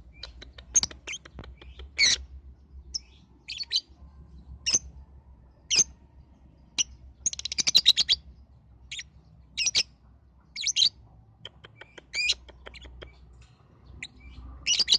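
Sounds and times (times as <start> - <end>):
lovebird chirping: 0.0 - 5.0, 5.6 - 6.0, 6.7 - 8.3, 8.9 - 14.9.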